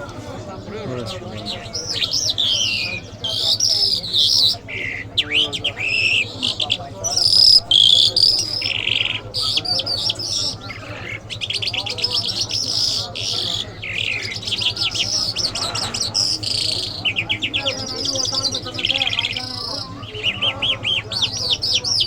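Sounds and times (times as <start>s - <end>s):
lark singing: 0.0s - 22.0s.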